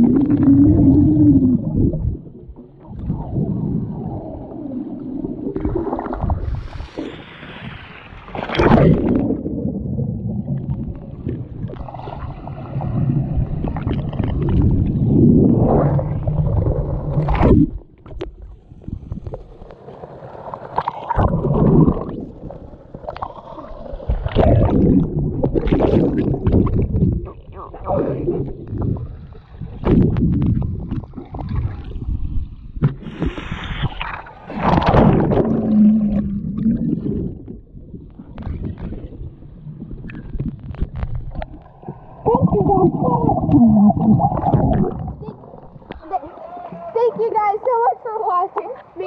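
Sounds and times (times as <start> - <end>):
muffled underwater churning: 0.0 - 49.0.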